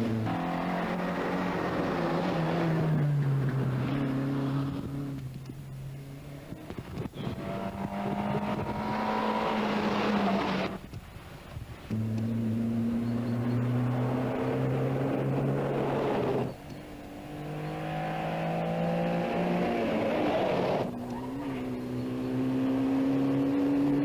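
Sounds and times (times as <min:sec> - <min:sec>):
rally car engines revving high: 0:00.0 - 0:11.0, 0:11.6 - 0:24.0.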